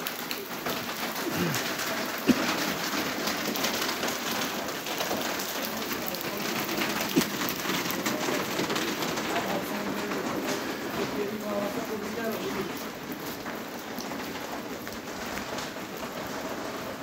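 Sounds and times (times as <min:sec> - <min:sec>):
rain on a paved street: 0:00.0 - 0:17.0.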